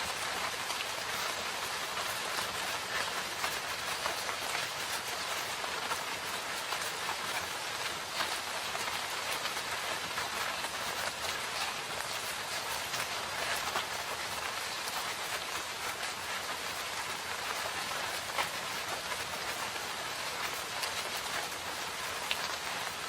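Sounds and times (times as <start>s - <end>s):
raindrops ticking: 0.0s - 23.0s
steady rainfall hiss: 0.0s - 23.0s.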